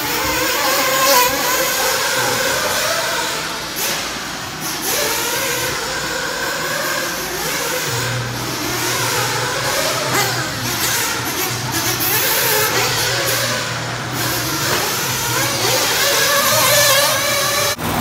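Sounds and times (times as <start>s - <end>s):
rc car motor whine: 0.0s - 18.0s.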